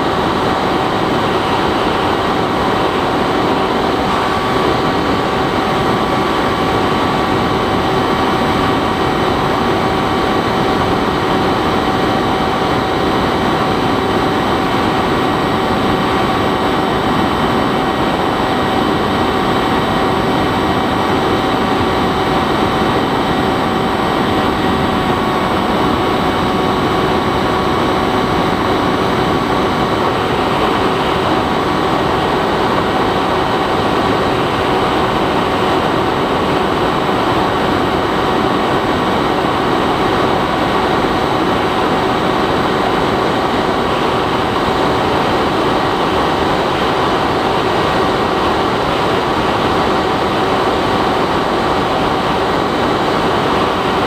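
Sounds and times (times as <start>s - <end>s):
model plane motor droning: 0.0s - 54.0s
rush of wind: 0.0s - 54.0s.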